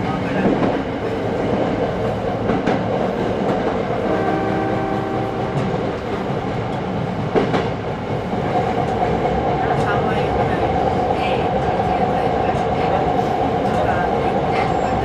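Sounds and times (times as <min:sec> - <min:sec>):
train rumbling on board: 0:00.0 - 0:15.0.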